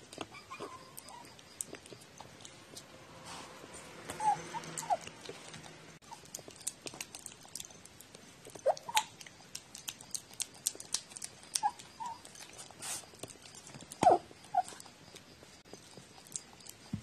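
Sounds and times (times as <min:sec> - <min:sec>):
cat chewing and licking wet food: 0:00.0 - 0:17.0.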